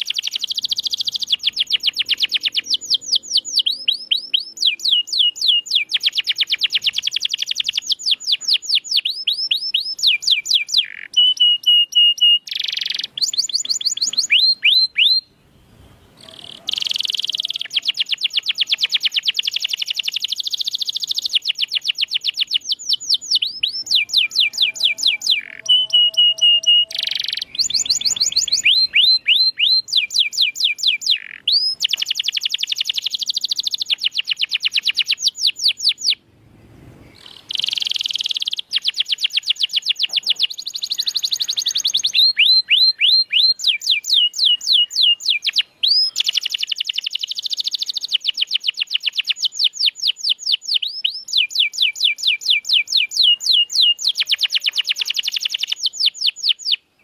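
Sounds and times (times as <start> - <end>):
canary steady whistle: 0.0 - 15.3, 16.2 - 36.2, 37.1 - 56.8
canary trilling: 0.0 - 15.3, 16.2 - 36.2, 37.1 - 56.8.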